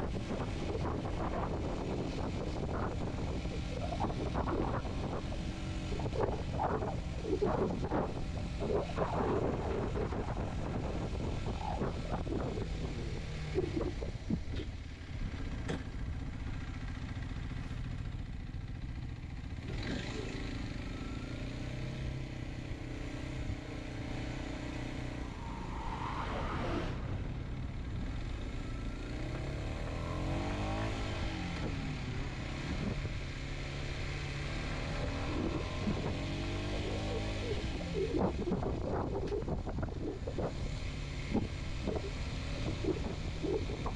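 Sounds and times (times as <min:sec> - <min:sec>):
motorcycle engine under way: 0:00.0 - 0:25.6, 0:26.9 - 0:43.9.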